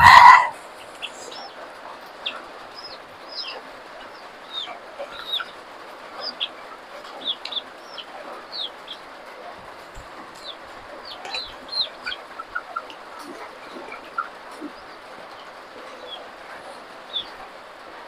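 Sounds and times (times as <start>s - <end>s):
background hiss: 0.0s - 18.0s
birds chirping: 0.0s - 18.0s.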